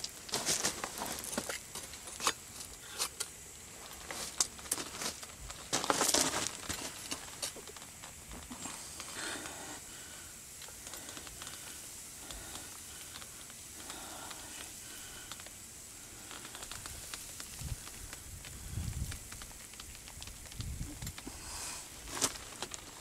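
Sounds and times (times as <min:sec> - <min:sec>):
faint hiss: 0:00.0 - 0:23.0
small crackles: 0:00.0 - 0:23.0.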